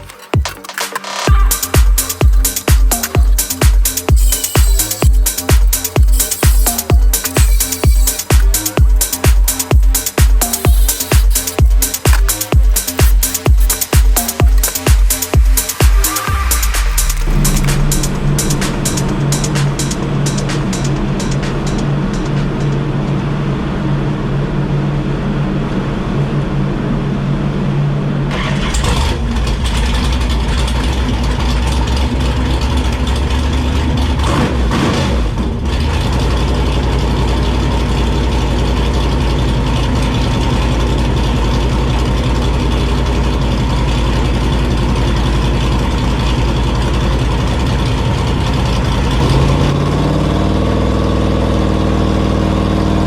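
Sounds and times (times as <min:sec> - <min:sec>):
engine running on dyno: 0:01.3 - 0:53.0.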